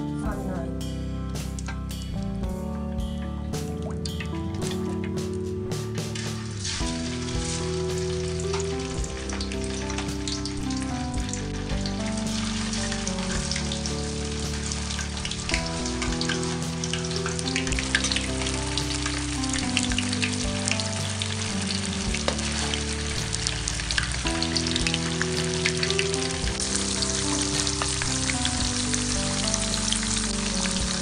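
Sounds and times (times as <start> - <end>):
soft background music: 0.0 - 31.0
tofu sizzling in hot oil: 6.1 - 31.0.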